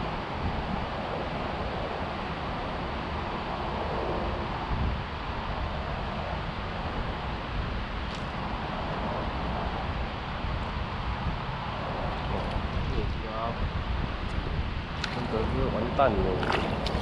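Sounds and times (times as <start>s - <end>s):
steady rushing outdoor noise: 0.0s - 17.0s
wind buffeting microphone: 0.0s - 17.0s.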